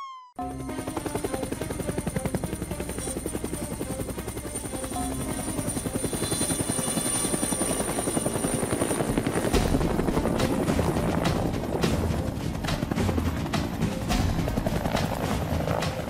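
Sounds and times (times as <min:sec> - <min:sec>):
helicopter rotor chopping: 0:00.4 - 0:16.0.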